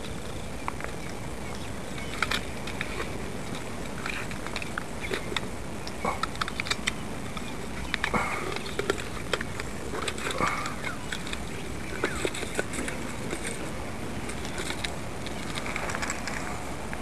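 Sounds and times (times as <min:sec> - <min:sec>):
handling clicks and rustles: 0:00.0 - 0:17.0
steady background hiss: 0:00.0 - 0:17.0.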